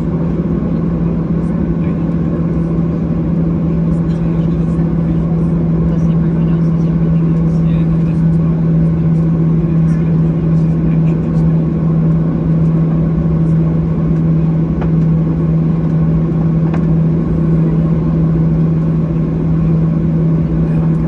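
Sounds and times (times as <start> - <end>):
constant low hum: 0.0 - 21.0
jet engine cabin rush: 0.0 - 21.0.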